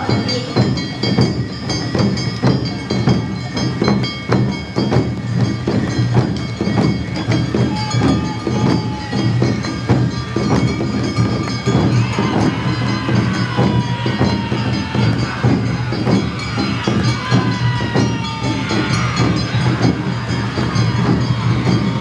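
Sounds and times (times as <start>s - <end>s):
drums striking a steady beat: 0.0s - 22.0s
held ringing high tones: 0.0s - 22.0s.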